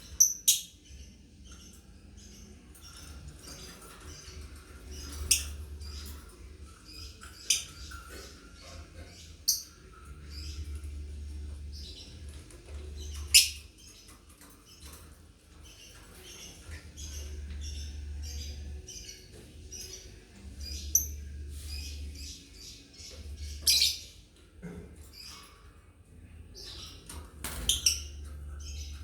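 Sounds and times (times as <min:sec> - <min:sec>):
lovebirds chirping: 0:00.0 - 0:29.0.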